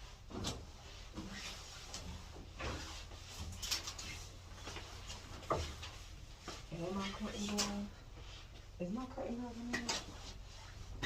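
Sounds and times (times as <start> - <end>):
things being handled and rustling: 0.0 - 11.0.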